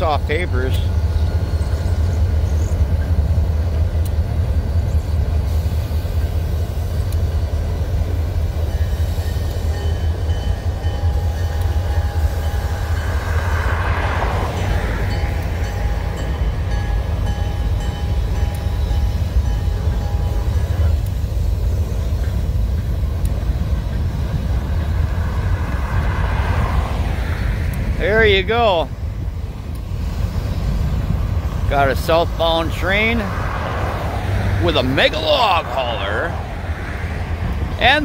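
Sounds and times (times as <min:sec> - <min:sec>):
diesel locomotive engine rumble: 0:00.0 - 0:38.0
railcars rolling on rails: 0:00.0 - 0:38.0.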